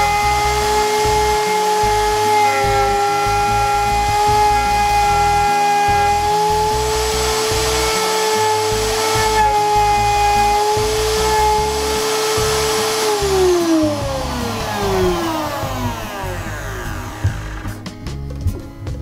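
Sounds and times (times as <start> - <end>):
motor whine spinning down: 0.0 - 18.0
router routing wood: 0.0 - 18.1.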